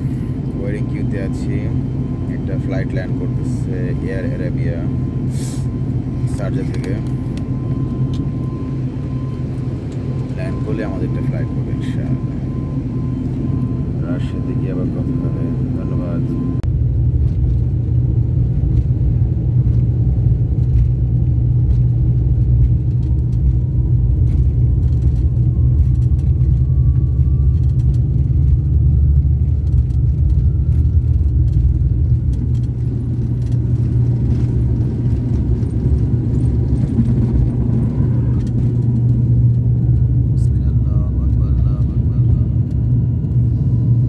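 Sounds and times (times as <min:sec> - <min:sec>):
faint rising whine: 0:00.0 - 0:18.1, 0:19.1 - 0:44.0
airliner engine rumble: 0:00.0 - 0:44.0.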